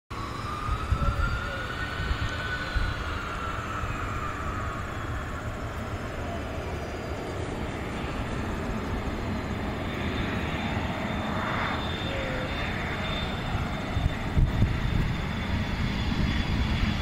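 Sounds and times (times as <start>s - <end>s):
descending jet whine: 0.1s - 17.0s
jet engine rumble: 0.1s - 17.0s.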